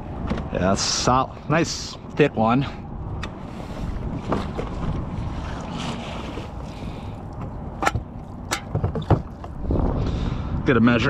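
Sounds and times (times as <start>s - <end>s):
wind buffeting microphone: 1.5s - 11.0s.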